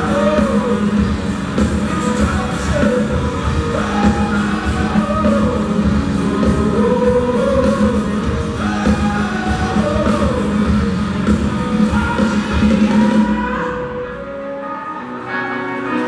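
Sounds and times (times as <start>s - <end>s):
live hard rock band: 0.0s - 16.0s.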